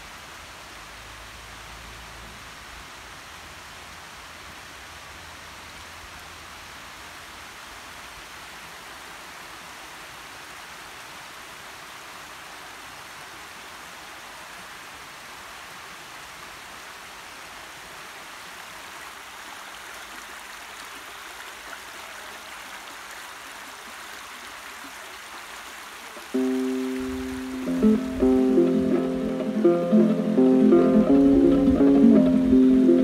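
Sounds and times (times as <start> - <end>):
stream water rushing over stones: 0.0 - 33.0.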